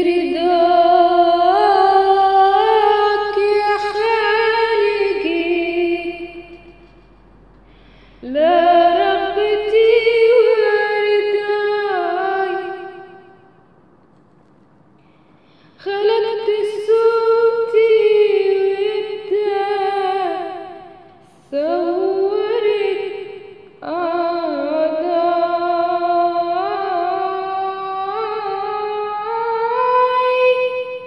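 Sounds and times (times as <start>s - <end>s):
woman singing devotional chant: 0.0s - 7.1s, 8.2s - 13.6s, 15.6s - 31.0s.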